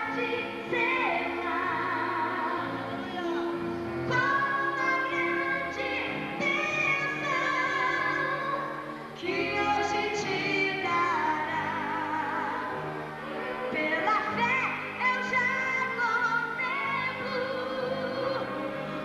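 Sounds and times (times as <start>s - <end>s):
woman singing gospel: 0.0s - 12.8s, 13.8s - 18.5s.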